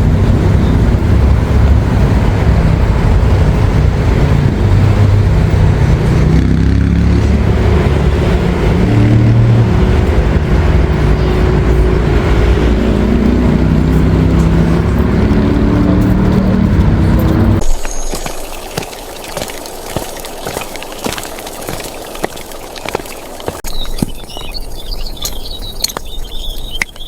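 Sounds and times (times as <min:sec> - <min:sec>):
motor vehicle rumbling: 0:00.0 - 0:27.0.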